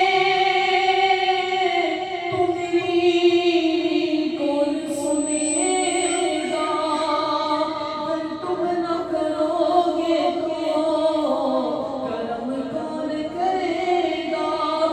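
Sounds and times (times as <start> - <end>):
person singing unaccompanied: 0.0 - 14.9.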